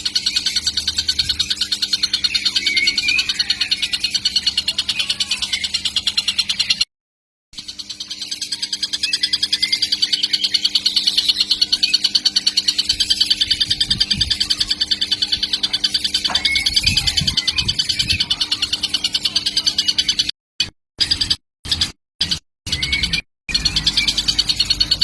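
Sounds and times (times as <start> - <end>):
kingfisher chick calling: 0.0 - 6.8, 7.9 - 20.3, 22.7 - 25.0.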